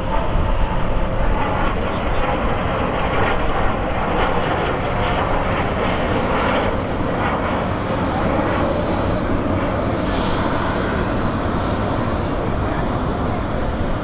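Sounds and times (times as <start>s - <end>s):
high engine whine: 0.0s - 14.0s
jet engine roar: 0.0s - 14.0s.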